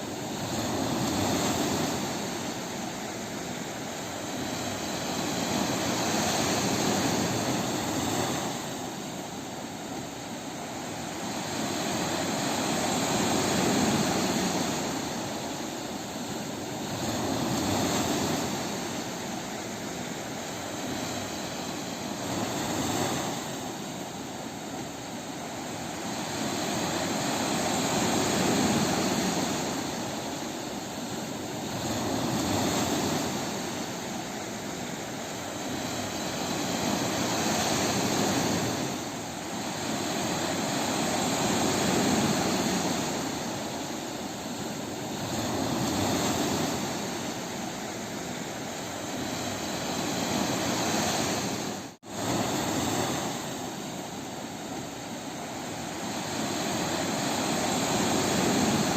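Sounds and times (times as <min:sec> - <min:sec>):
ocean waves breaking on beach: 0:00.0 - 0:58.9.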